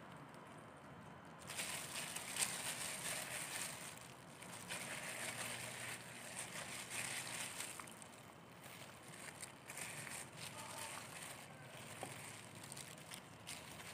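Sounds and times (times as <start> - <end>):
plastic gloves crinkling: 1.3 - 13.9.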